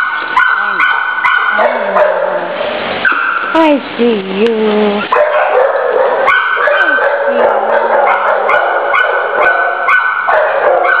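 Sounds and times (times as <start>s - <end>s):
dogs barking: 0.0s - 3.5s, 5.1s - 11.0s.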